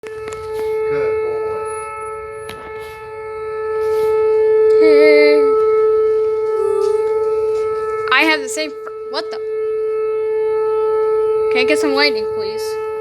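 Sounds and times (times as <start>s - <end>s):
warning siren steady tone: 0.0s - 13.0s.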